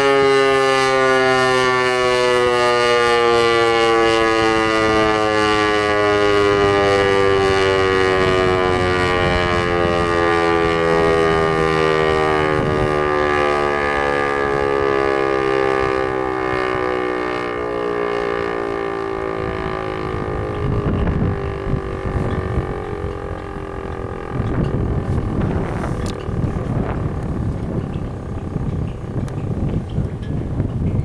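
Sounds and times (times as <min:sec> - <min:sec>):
siren winding down: 0:00.0 - 0:29.9.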